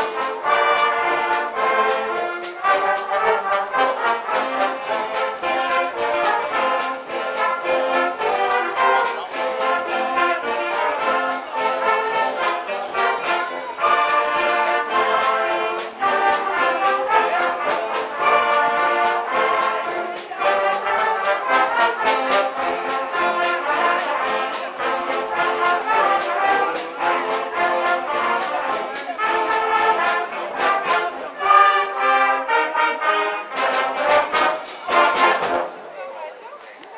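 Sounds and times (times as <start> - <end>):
steady drum beat: 0.0 - 31.6, 33.6 - 35.7
wind band playing lively piece: 0.0 - 36.8.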